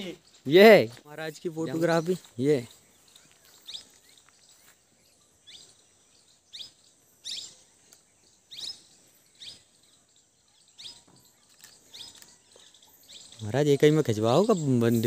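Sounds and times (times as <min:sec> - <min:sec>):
outdoor background noise: 0:00.0 - 0:15.0
bird calling: 0:01.5 - 0:15.0.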